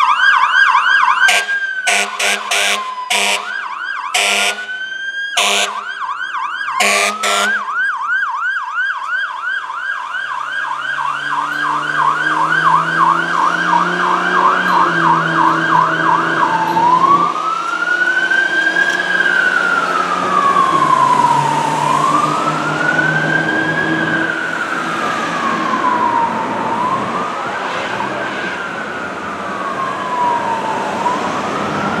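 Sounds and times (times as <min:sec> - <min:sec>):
fire truck siren yelp and wail: 0:00.0 - 0:32.0.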